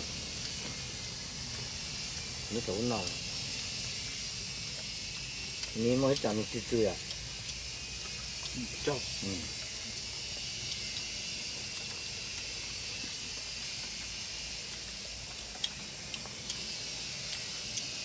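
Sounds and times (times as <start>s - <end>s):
high-pitched hiss: 0.0s - 18.0s.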